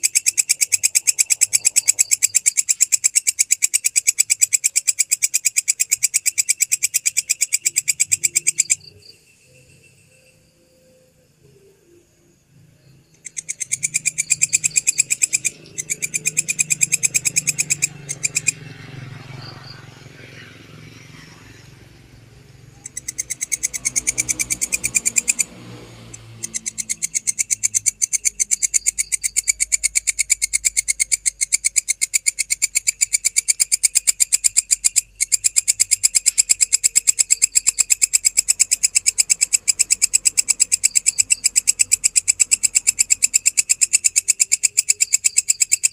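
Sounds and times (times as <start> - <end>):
grasshopper stridulating: 0.0 - 45.9.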